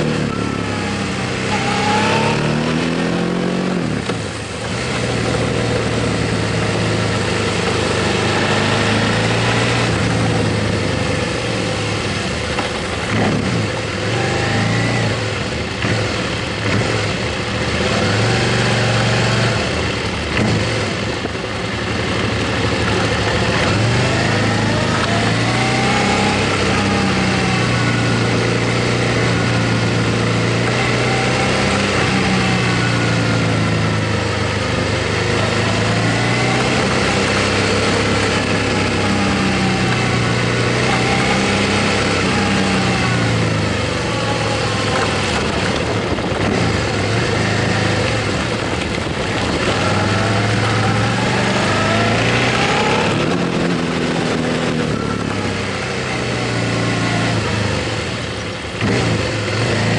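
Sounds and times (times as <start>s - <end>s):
motorcycle engine humming: 0.0s - 59.9s
wind and road noise: 0.0s - 59.9s.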